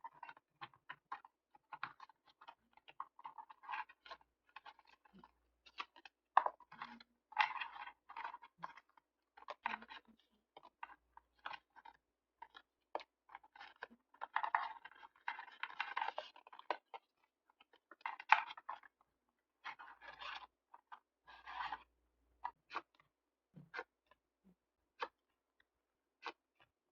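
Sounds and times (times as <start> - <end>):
small taps and scratches: 0.0 - 26.8.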